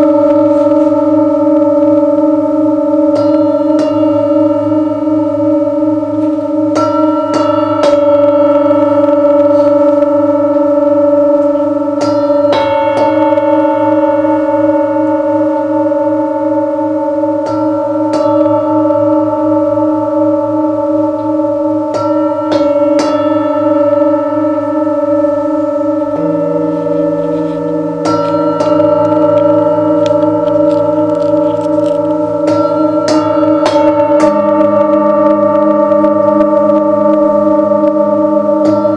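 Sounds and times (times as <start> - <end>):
deep steady tone: 0.0 - 38.9
singing bowls ringing: 0.0 - 38.9.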